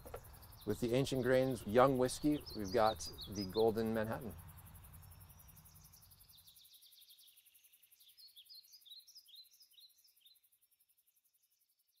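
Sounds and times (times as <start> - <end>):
bird chirping: 0.0 - 12.0
high insect trill: 0.0 - 12.0.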